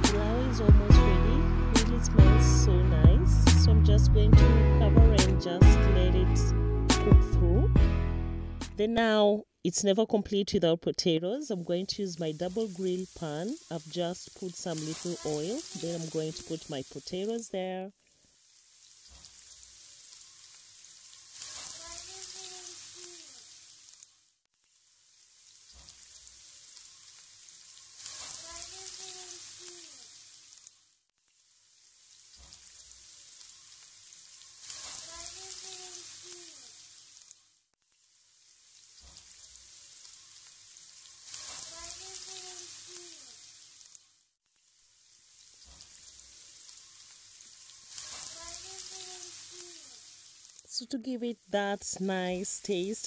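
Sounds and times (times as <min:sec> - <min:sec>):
oil sizzling with frying potatoes: 0:00.0 - 0:04.6, 0:11.2 - 0:53.0.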